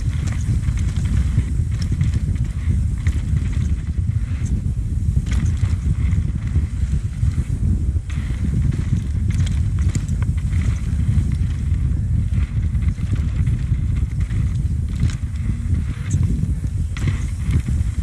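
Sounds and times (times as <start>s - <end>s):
bike rattling over bumps: 0.0s - 18.0s
bike tyre noise: 0.0s - 18.0s
wind rumble on microphone: 0.0s - 18.0s.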